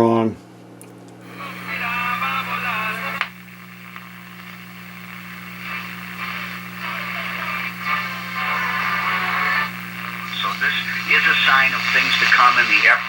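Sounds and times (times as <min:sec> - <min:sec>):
steady hum: 0:00.8 - 0:13.0
radio static hiss: 0:01.2 - 0:13.0.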